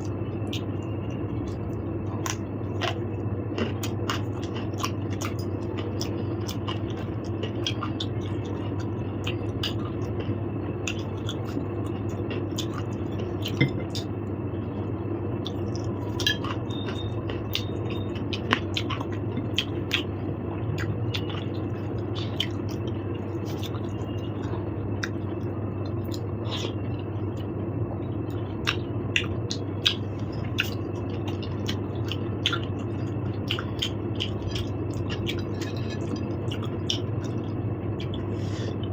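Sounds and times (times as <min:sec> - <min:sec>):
person chewing: 0:00.0 - 0:14.2, 0:15.4 - 0:20.1, 0:20.8 - 0:26.8, 0:28.6 - 0:38.8
steady low hum: 0:00.0 - 0:38.9.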